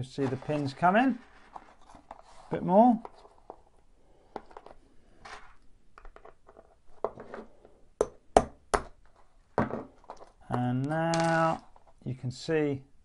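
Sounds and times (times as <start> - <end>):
light handling and rustling: 0.0 - 7.8, 9.0 - 12.1.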